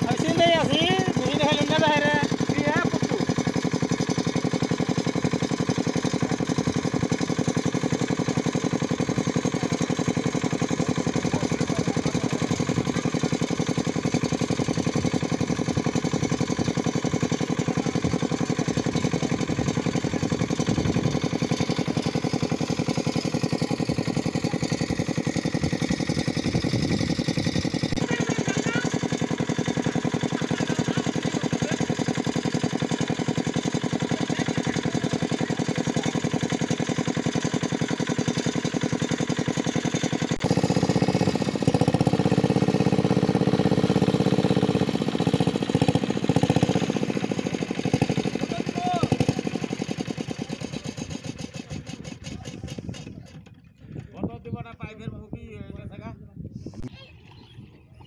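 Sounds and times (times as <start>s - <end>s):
small engine running steadily: 0.0s - 55.9s, 56.6s - 58.0s.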